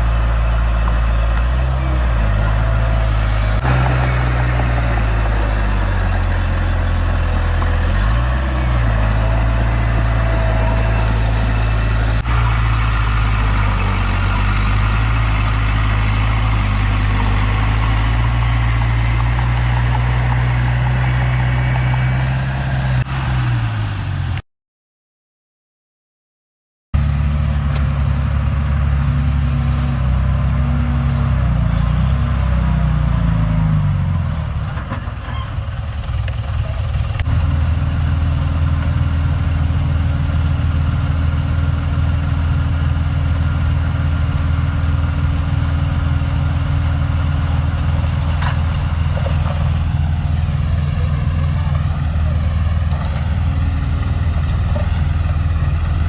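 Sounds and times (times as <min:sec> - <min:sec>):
heavy diesel engine running: 0:00.0 - 0:24.4, 0:27.0 - 0:56.0.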